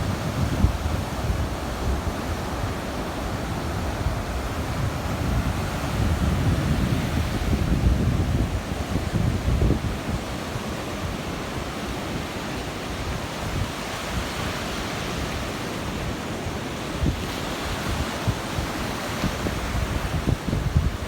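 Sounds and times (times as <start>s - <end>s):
ocean surf washing onto beach: 0.0s - 21.0s
wind buffeting microphone: 0.0s - 21.0s.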